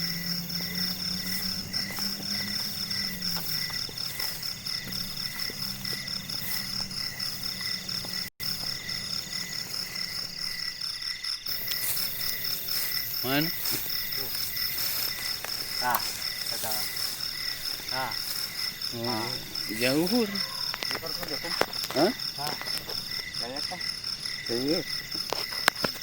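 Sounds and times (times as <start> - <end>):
crickets and insects trilling: 0.0 - 26.0
frogs calling: 0.0 - 26.0.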